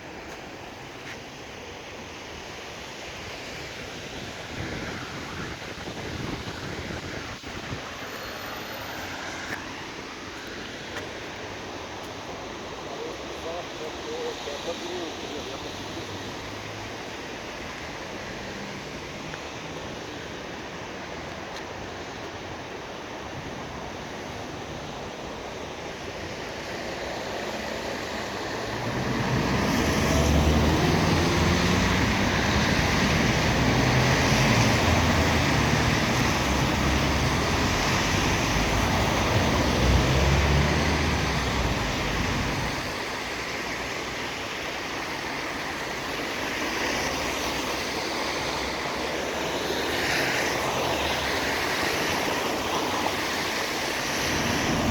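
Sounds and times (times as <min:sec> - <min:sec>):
tyres hissing on wet road: 0:00.0 - 0:54.9
vehicles passing with low rumble: 0:00.0 - 0:54.9.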